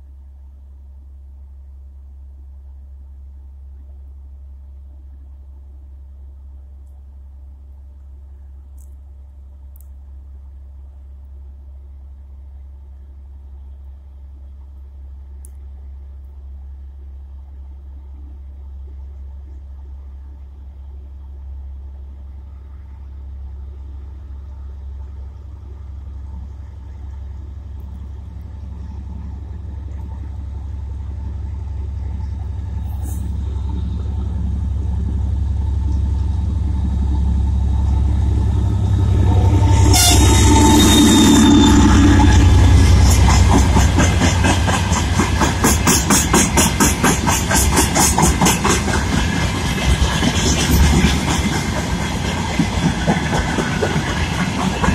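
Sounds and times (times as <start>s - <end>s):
locomotive engine rumble: 0.0s - 54.9s.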